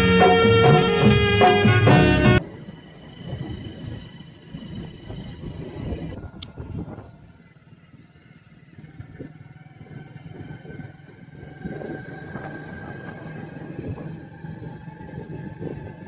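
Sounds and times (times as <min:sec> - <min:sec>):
engine humming with faint whine: 0:00.0 - 0:16.0.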